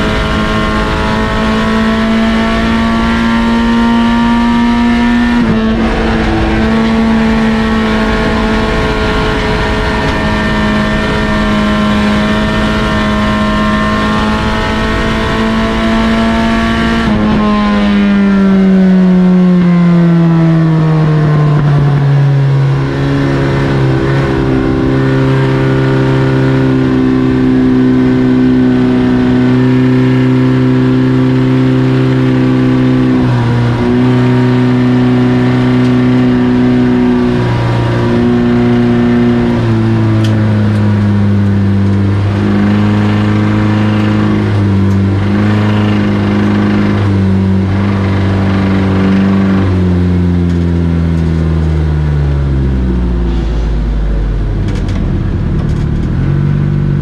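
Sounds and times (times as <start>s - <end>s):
race car engines at high revs: 0.0s - 57.0s.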